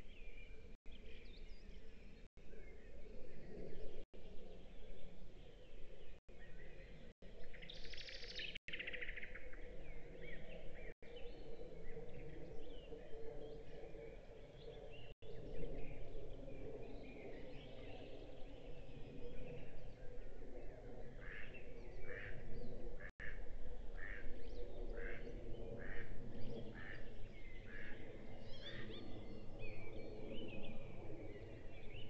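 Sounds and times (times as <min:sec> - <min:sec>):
small songbirds chirping and trilling: 0:00.0 - 0:32.0.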